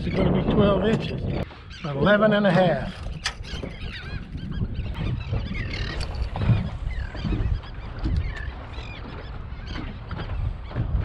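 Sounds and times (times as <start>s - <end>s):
seabirds calling: 0.0s - 11.0s
wind rumble on microphone: 0.0s - 11.0s.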